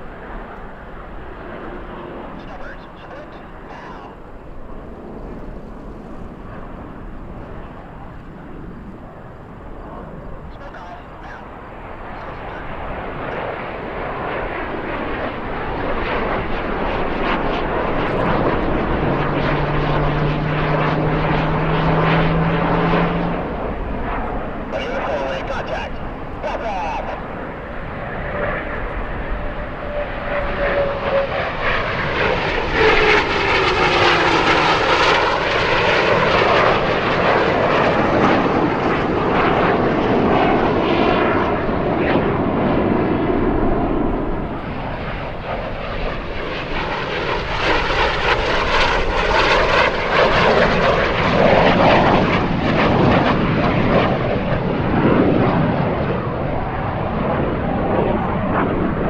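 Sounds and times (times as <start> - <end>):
jet aircraft flyby whoosh: 0.0 - 59.0.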